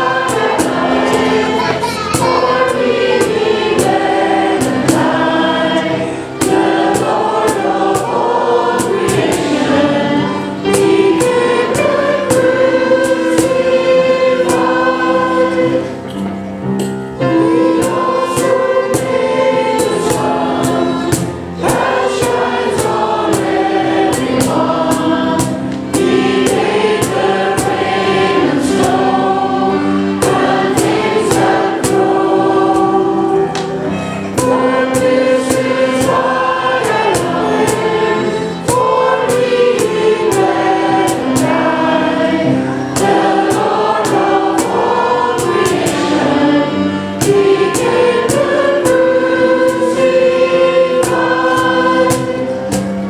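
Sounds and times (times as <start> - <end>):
sharp percussion hits: 0.0 - 16.1, 16.8 - 53.0
band accompaniment: 0.0 - 53.0
congregation singing a hymn: 0.0 - 53.0.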